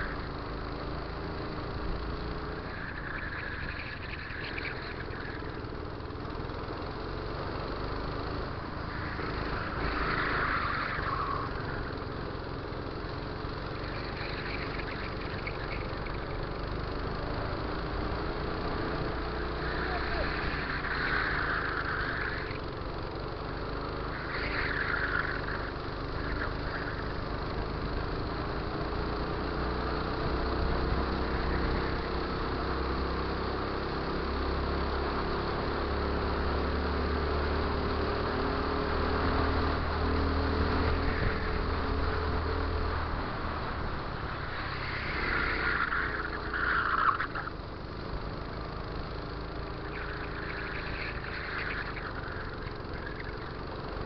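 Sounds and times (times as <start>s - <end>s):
continuous rush of noise: 0.0s - 54.0s
go-kart engine running hard: 0.0s - 54.0s.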